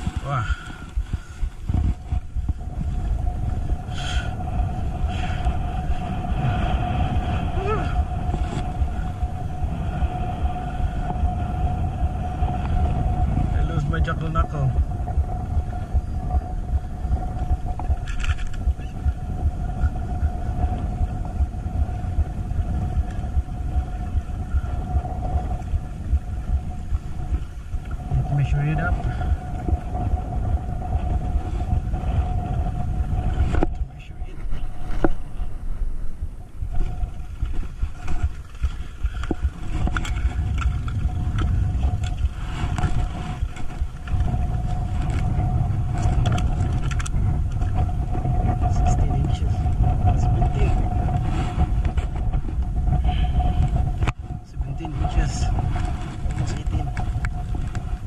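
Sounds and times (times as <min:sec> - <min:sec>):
faint steady hum: 0:00.0 - 0:58.0
wind buffeting microphone: 0:00.0 - 0:58.0.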